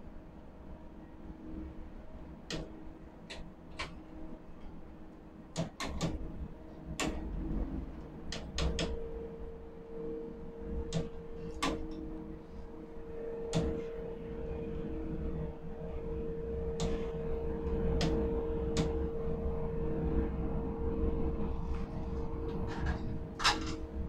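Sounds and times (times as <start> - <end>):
crane electrical hum: 0.0 - 24.0.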